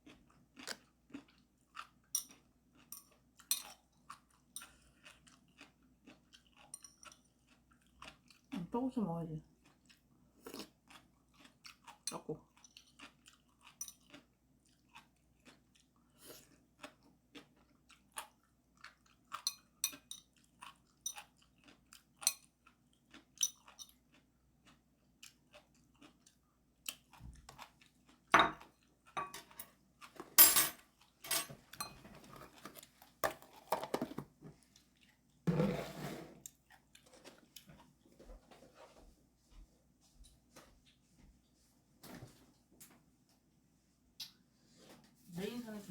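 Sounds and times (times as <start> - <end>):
person chewing and crunching food: 0.0 - 35.4, 36.4 - 41.1.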